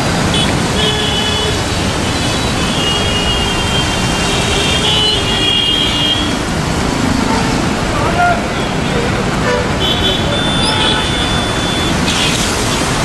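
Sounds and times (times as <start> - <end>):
dense road traffic: 0.0 - 13.0.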